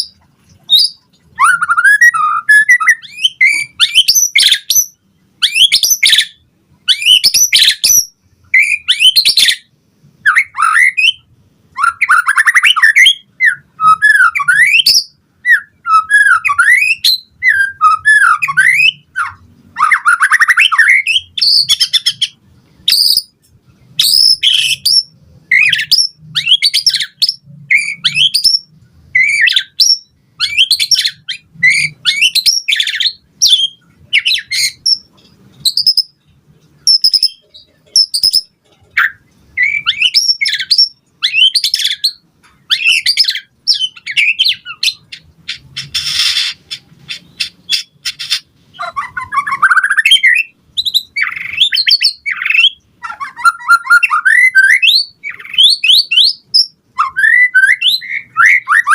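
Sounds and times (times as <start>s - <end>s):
bird singing whistled phrases: 0.0s - 23.4s, 24.0s - 36.2s, 36.9s - 37.4s, 38.0s - 58.9s.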